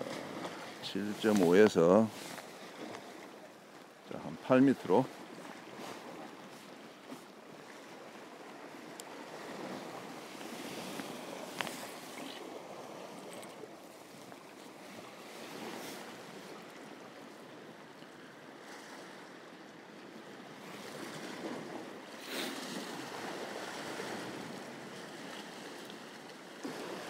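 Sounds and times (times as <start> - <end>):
sea waves washing against rocks: 0.0 - 17.7, 20.6 - 27.0.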